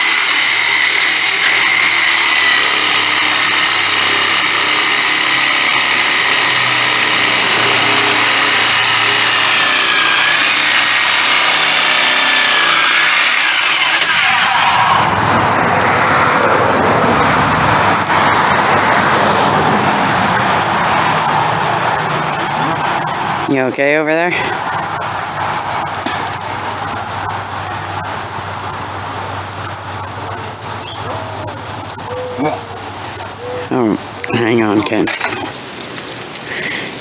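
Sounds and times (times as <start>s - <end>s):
power tool cutting metal: 0.0s - 37.0s.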